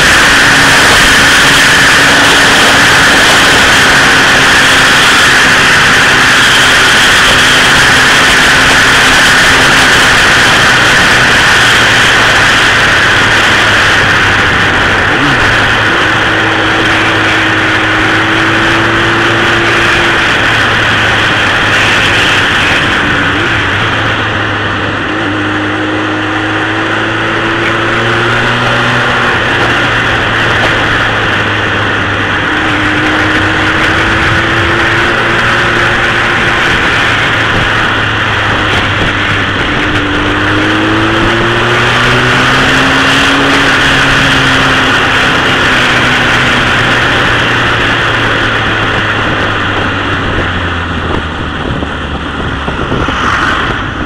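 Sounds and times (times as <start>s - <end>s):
motorcycle engine cruising: 0.0s - 54.0s
wind rushing over microphone: 0.0s - 54.0s.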